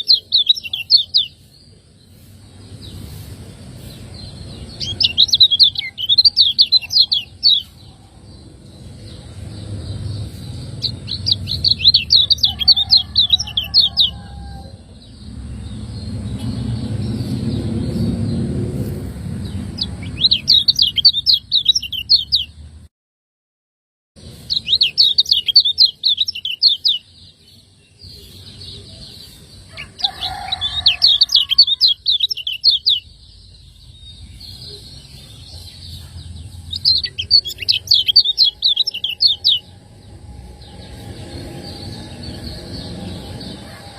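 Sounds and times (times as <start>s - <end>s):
bird singing rapid high chirps: 0.0s - 22.7s, 24.2s - 43.9s
low background rumble: 0.1s - 22.8s, 27.2s - 43.9s.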